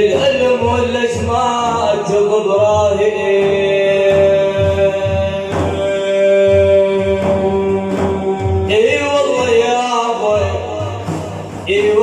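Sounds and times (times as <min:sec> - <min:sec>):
man singing a long note: 0:00.0 - 0:12.0
steady low beat: 0:00.0 - 0:12.0.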